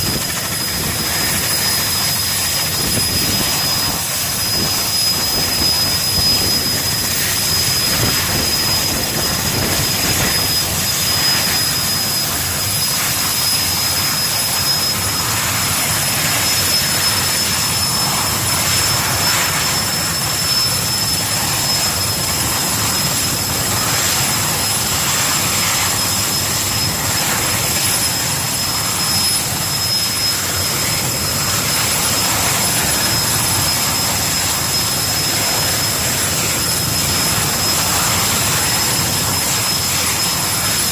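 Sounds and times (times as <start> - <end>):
helicopter rotors rushing: 0.0 - 40.9
helicopter turbine whine: 0.0 - 40.9.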